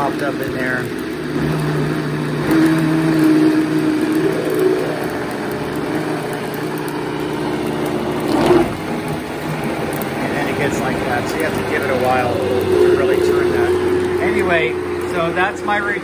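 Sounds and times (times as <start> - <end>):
blender motor whirring: 0.0 - 16.0.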